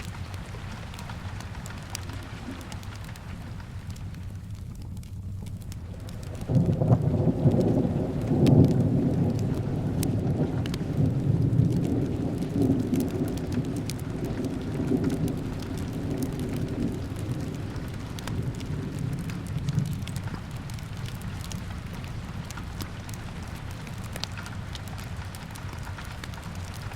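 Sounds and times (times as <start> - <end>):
fireplace crackles: 0.0 - 26.9
steady rain: 0.0 - 26.9
thunder rumble: 0.0 - 26.9.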